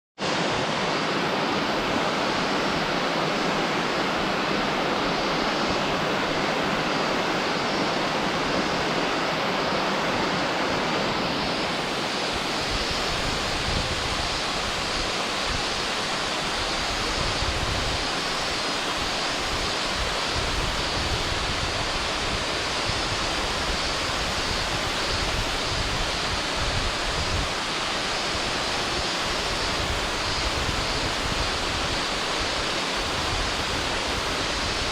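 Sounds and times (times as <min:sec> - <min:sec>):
waterfall rushing: 0:00.2 - 0:34.9.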